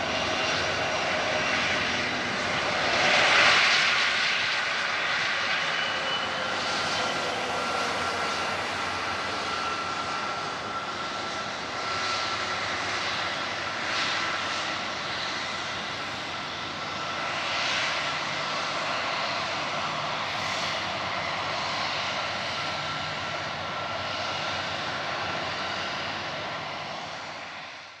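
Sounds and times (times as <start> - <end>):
high turbine whine: 0.0 - 27.7
jet airliner landing: 0.0 - 28.0.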